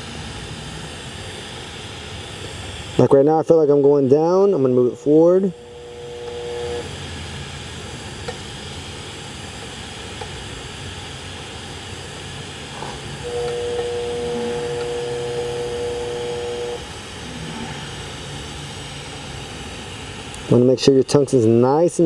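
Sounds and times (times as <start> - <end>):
motor whine: 0.0 - 21.2
welding arc hissing: 0.0 - 22.0.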